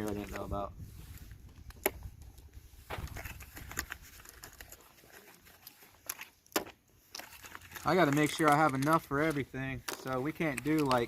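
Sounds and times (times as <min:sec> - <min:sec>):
shotgun shells being handled: 0:01.4 - 0:11.0.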